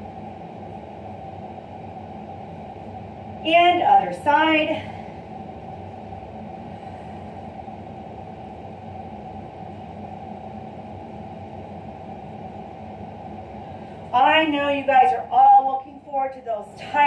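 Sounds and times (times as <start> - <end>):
steady low hum with hiss: 0.0 - 17.0.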